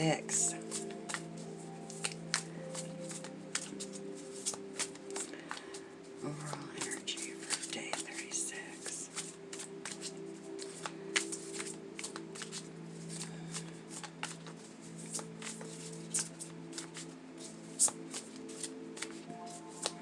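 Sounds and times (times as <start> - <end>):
soft background music: 0.0 - 20.0
cards being shuffled: 0.3 - 20.0.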